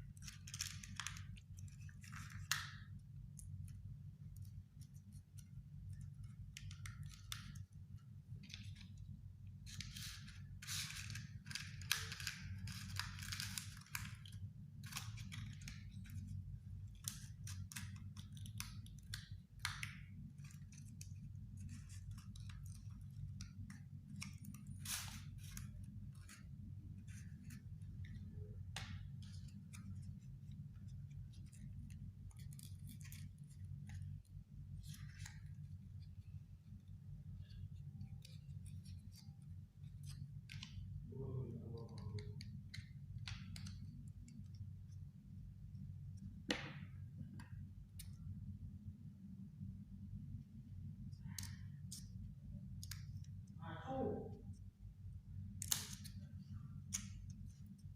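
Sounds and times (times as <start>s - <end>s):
steady low hum: 1.1s - 57.9s.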